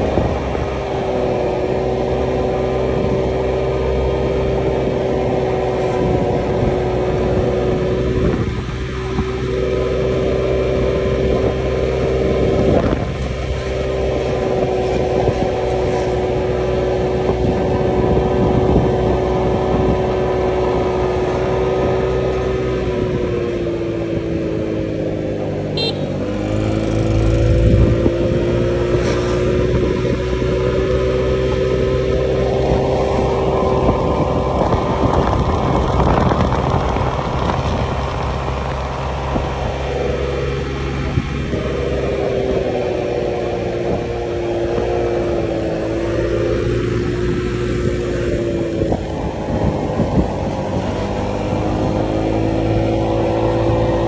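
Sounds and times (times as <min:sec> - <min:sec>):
scooter engine running: 0:00.0 - 0:28.9, 0:29.7 - 0:54.0
wind rumbling on microphone: 0:00.0 - 0:54.0.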